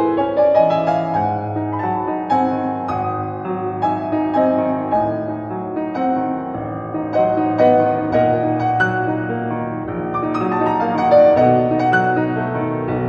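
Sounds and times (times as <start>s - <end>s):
slow gentle piano melody: 0.0s - 13.0s.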